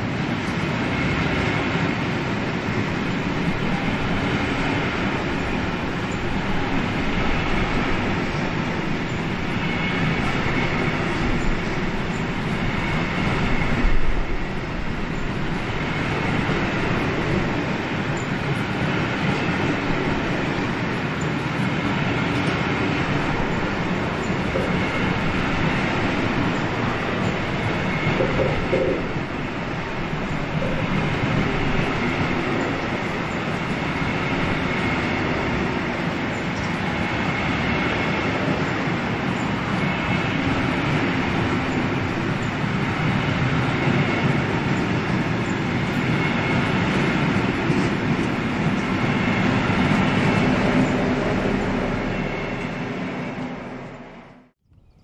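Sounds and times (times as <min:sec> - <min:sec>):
freight train wheels on rails: 0:00.0 - 0:54.5.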